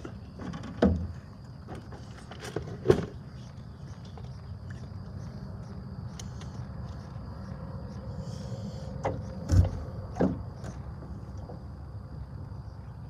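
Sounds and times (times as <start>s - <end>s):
high drone of insects: 0.0s - 13.0s.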